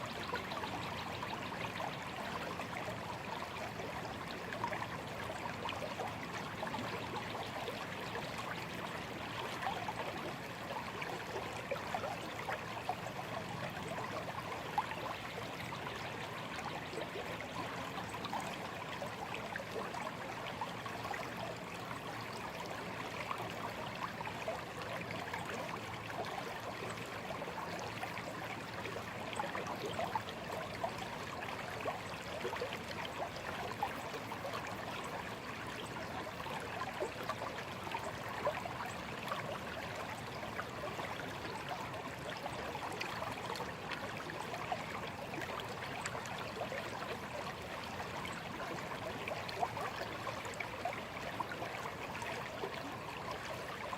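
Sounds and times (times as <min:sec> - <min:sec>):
stream trickling and splashing: 0:00.0 - 0:53.9.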